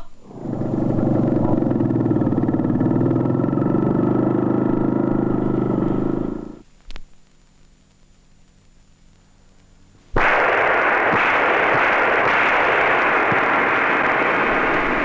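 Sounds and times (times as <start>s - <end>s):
loud steady static hiss: 0.0s - 15.0s.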